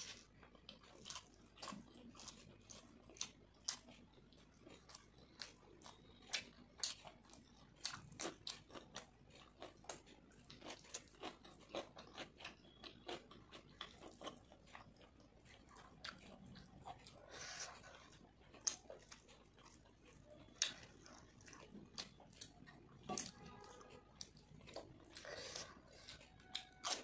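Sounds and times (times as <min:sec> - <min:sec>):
chewing with mouth clicks: 0:00.0 - 0:27.0.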